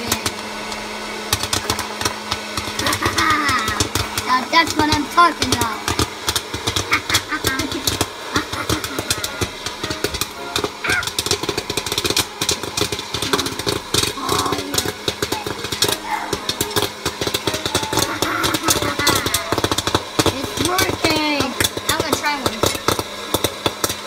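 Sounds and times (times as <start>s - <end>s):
popcorn maker fan hum: 0.0s - 24.0s
rapid popping of kernels: 0.0s - 24.0s.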